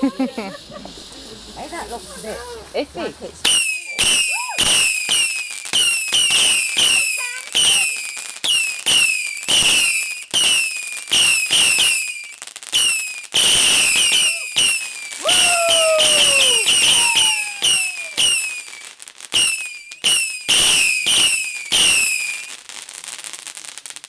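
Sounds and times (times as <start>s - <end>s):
firework shots: 0.0s - 22.5s.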